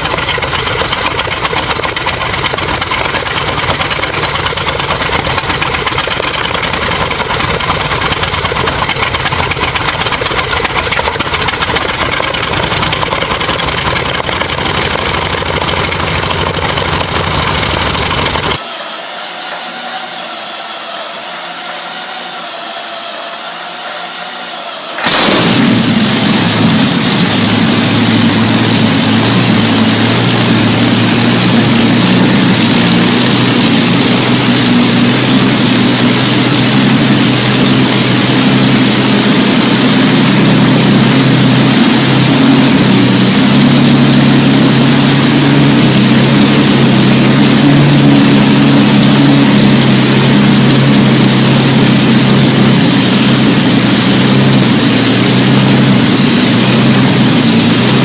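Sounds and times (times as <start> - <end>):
large engine running loud: 0.0 - 58.0
strong hiss: 0.0 - 58.0.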